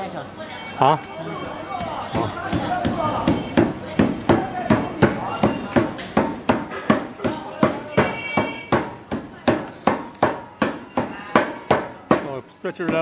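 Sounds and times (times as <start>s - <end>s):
mallets pounding candy: 1.0s - 13.0s.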